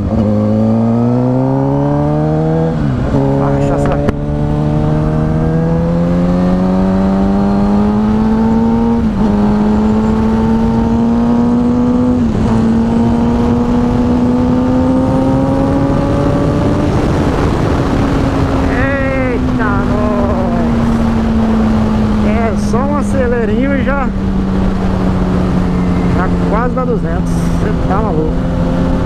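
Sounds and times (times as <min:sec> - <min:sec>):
motorcycle engine accelerating hard: 0:00.0 - 0:29.0.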